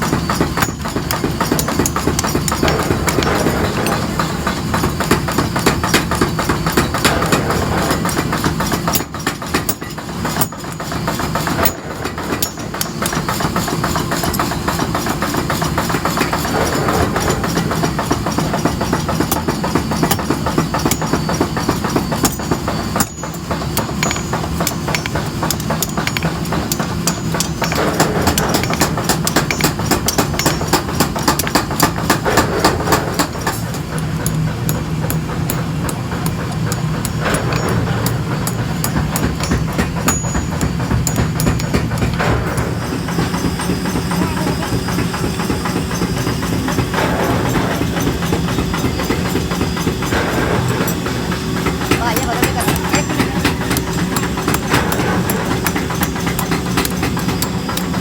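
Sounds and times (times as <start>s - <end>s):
hammer blows on hot metal: 0.0s - 58.0s
steady machine hum: 0.0s - 58.0s.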